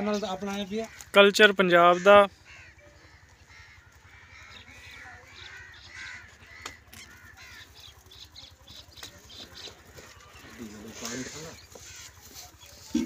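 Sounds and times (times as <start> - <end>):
crows cawing: 0.0 - 13.0
faint low rhythmic rumble: 2.3 - 13.0.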